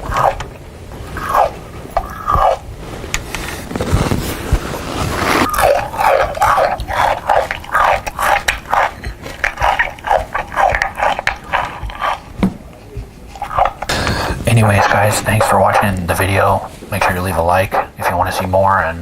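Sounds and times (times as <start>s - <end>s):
chewing through a megaphone: 0.0s - 2.7s, 3.9s - 19.0s.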